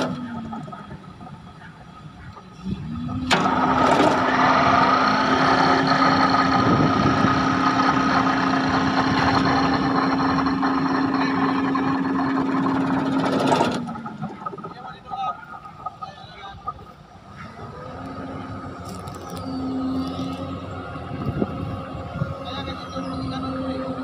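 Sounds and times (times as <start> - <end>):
vibratory pile hammer humming: 2.9 - 24.0.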